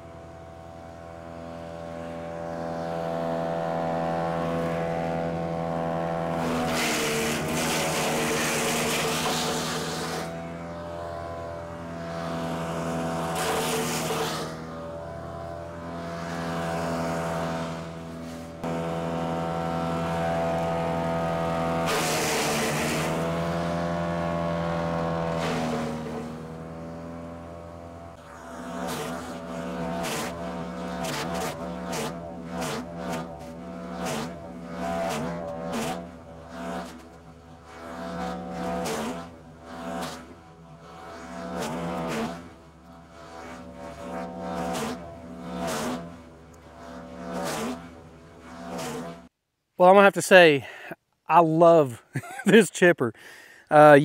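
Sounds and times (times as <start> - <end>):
wood chipper engine running: 0.0 - 48.9
wood chipper grinding limbs: 0.0 - 49.3.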